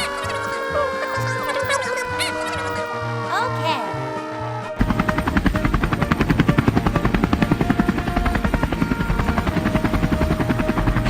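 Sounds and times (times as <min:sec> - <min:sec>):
cartoon helicopter rotor chopping: 0:00.0 - 0:04.0, 0:04.8 - 0:11.0.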